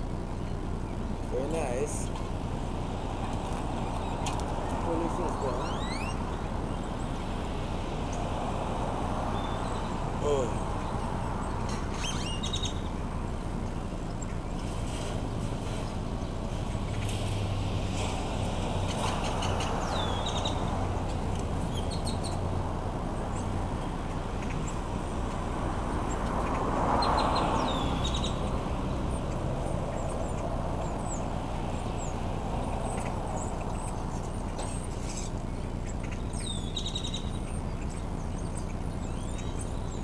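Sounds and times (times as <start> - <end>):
background traffic: 0.0 - 40.0
birds chirping: 0.0 - 40.0.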